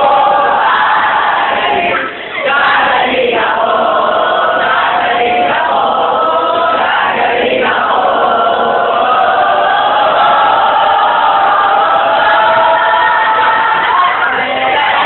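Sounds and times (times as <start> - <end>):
group of students singing: 0.0 - 15.0.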